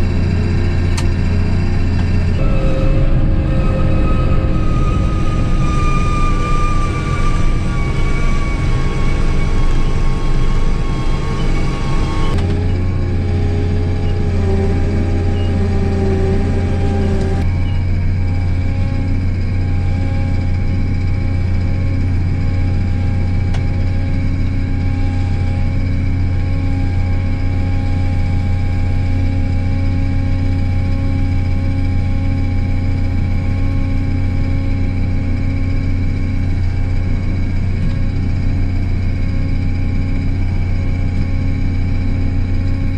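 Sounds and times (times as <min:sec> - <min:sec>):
combine diesel engine droning: 0:00.0 - 0:42.9.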